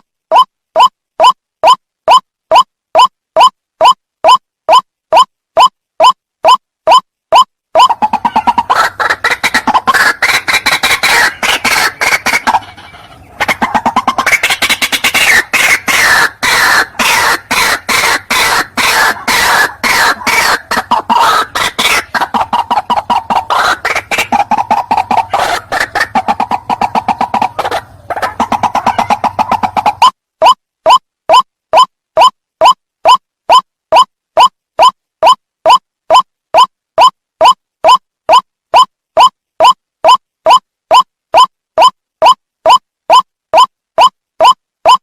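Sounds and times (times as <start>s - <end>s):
waterhen harsh repeated calls: 0.3s - 45.0s.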